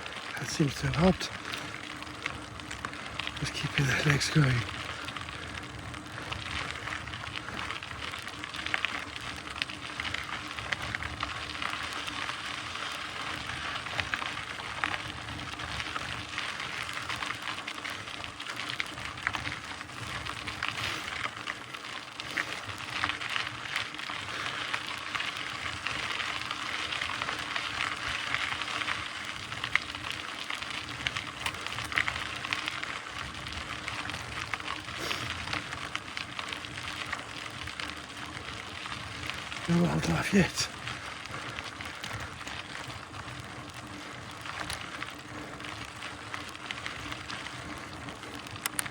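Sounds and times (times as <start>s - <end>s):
bike tyres rolling on dirt: 0.0s - 48.9s.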